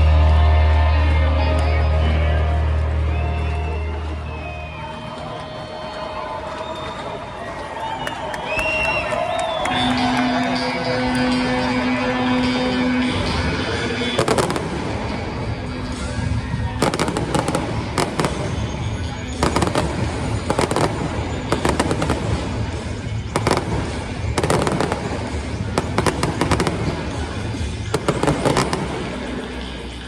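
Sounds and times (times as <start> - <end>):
music with low bass: 0.0 - 4.5, 10.0 - 30.0
fireworks bangs and crackles: 3.4 - 30.0.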